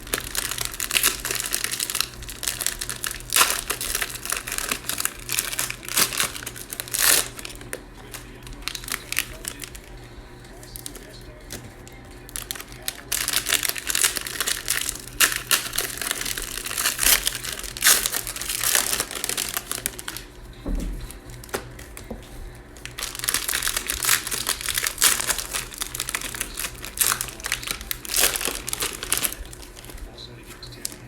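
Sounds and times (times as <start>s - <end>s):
cellophane wrappers crinkling: 0.0s - 31.0s.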